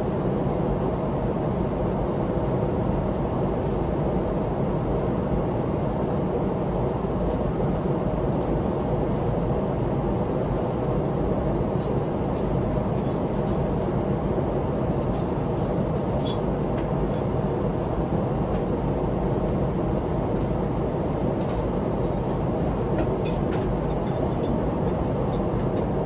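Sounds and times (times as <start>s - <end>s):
airplane cabin engine rush: 0.0s - 26.0s.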